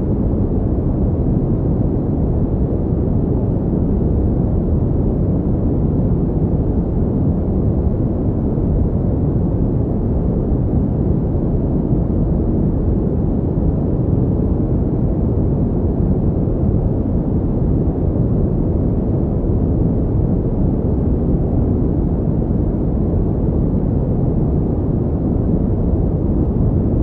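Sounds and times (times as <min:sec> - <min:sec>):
low rumbling pink noise: 0:00.0 - 0:27.0.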